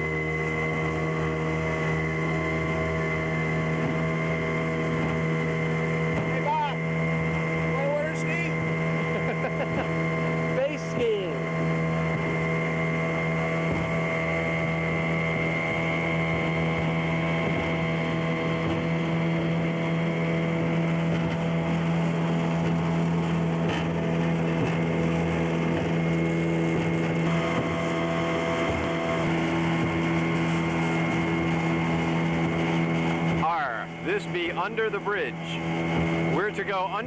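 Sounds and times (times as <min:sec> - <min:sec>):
motorboat engine running: 0:00.0 - 0:37.0.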